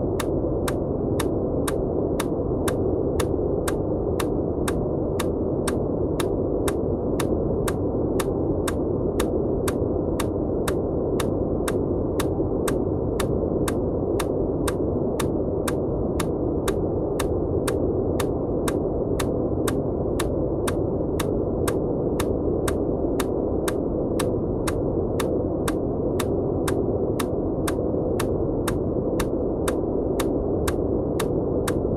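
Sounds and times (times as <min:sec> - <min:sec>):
muffled low white noise: 0:00.0 - 0:31.9
sharp repeating tick: 0:00.1 - 0:31.9.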